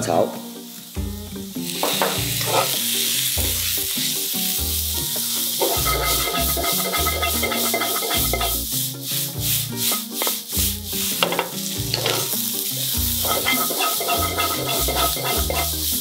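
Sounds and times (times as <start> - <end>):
background music with shaker beat: 0.4 - 16.0
food sizzling in a wok: 0.4 - 16.0
wooden spatula scraping wok: 1.7 - 16.0.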